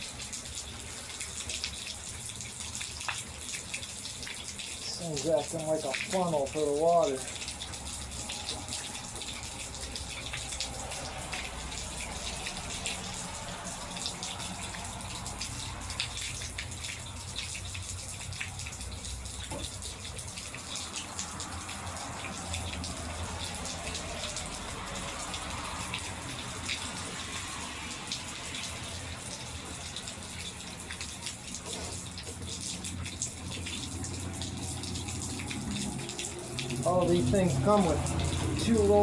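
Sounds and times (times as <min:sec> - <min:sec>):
rain falling: 0:00.0 - 0:39.0
water running and dripping: 0:00.0 - 0:39.0.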